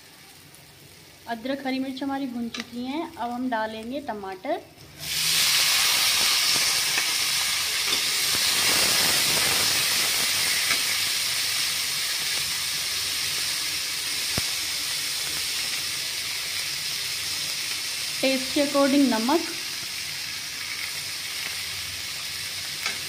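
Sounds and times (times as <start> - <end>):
tomatoes sizzling in hot oil: 0.0 - 23.0.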